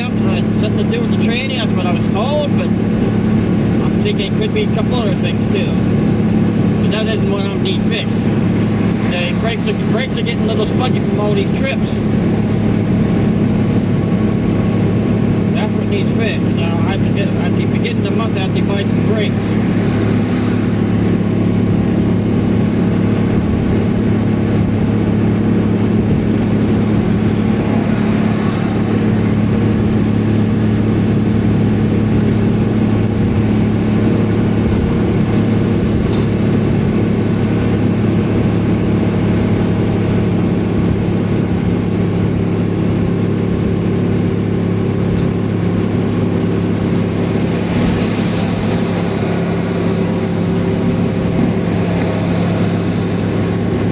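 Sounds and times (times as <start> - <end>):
road noise: 0.0 - 53.9
vehicle engine at high revs: 0.0 - 53.9.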